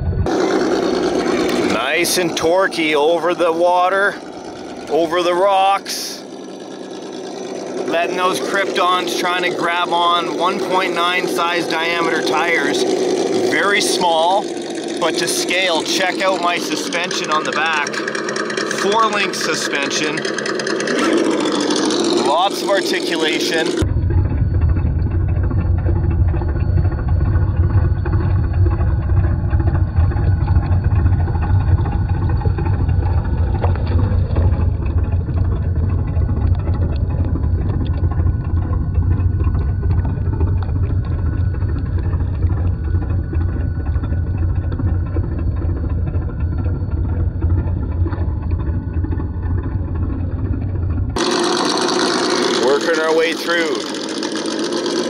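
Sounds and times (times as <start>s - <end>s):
low engine-like rumble: 0.0s - 55.0s.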